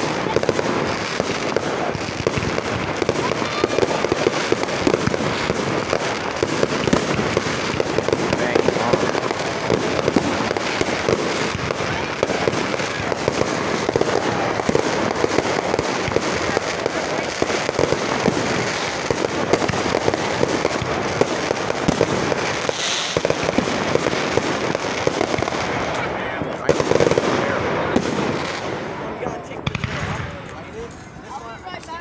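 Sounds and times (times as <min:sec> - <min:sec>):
firecrackers crackling: 0:00.0 - 0:32.0.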